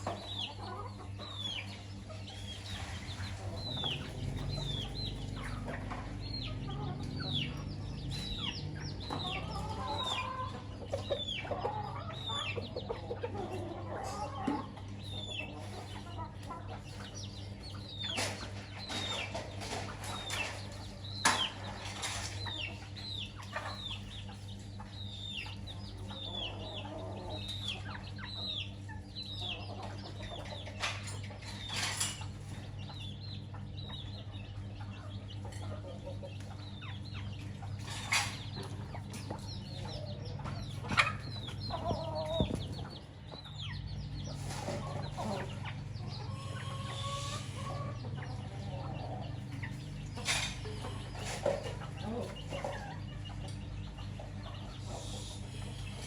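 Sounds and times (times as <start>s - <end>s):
chicks peeping: 0.0s - 56.0s
hen clucking: 0.0s - 56.0s.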